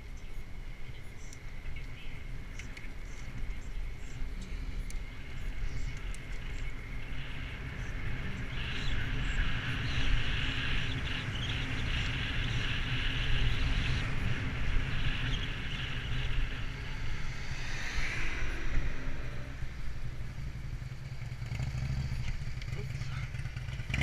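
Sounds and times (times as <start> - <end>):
tyres rolling on asphalt: 0.0 - 24.0
wind rumbling on microphone: 0.0 - 24.0
car passing: 3.0 - 24.0.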